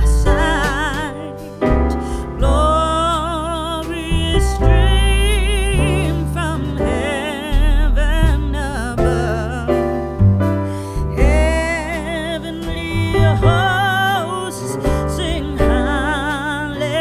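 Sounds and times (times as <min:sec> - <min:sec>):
bass: 0:00.0 - 0:17.0
person singing: 0:00.0 - 0:17.0
piano: 0:00.0 - 0:17.0.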